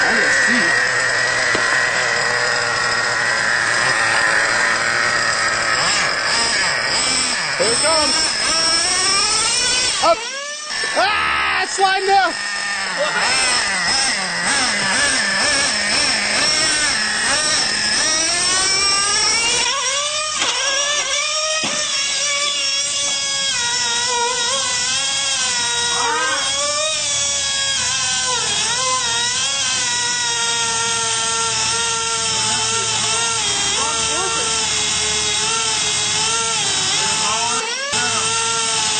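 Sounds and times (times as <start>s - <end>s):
rc truck engine revving: 0.0s - 38.9s.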